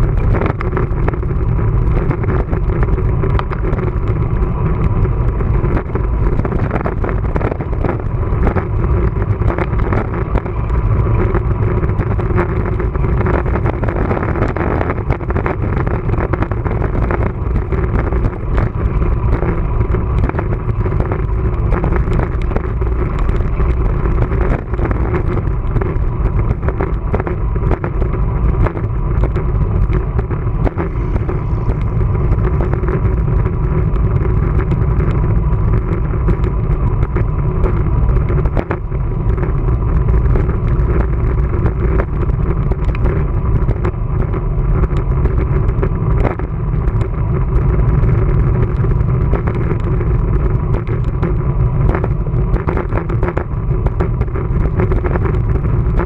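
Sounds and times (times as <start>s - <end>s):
bicycle road noise: 0.0s - 56.0s
small clicks and rattles: 0.0s - 56.0s
wind on microphone: 0.0s - 56.0s.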